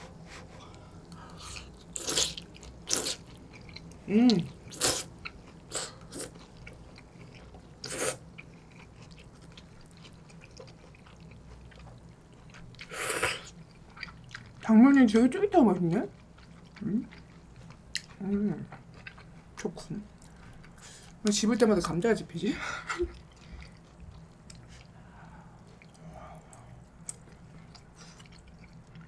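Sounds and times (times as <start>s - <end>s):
quiet chewing: 0.2s - 14.7s, 15.6s - 22.0s, 22.8s - 29.0s.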